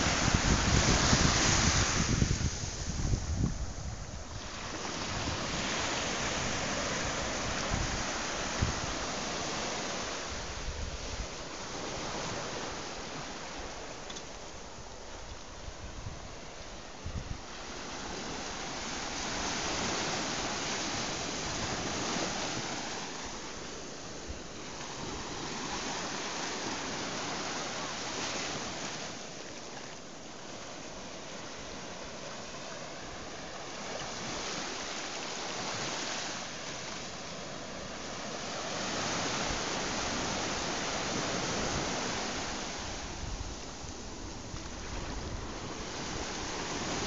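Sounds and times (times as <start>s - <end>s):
small waves breaking on sand: 0.0s - 47.0s.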